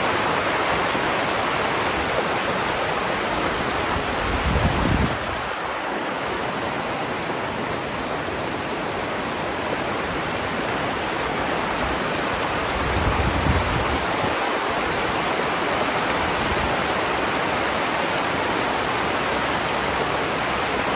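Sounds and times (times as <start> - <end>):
river water rushing: 0.0 - 20.9.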